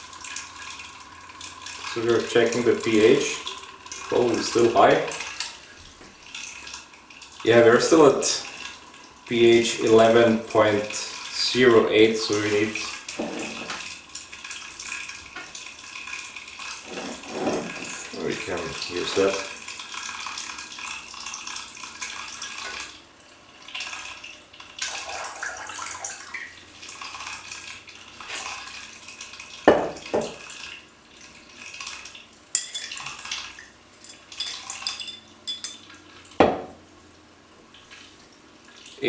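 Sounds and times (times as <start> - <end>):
liquid pouring between glass vessels: 0.0 - 36.8.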